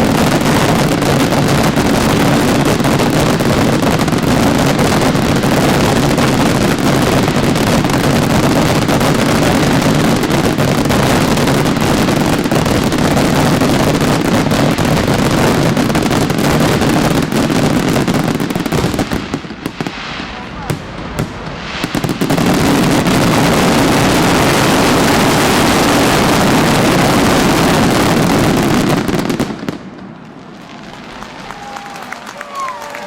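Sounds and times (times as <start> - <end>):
fireworks explosions and cracks: 0.0 - 33.0.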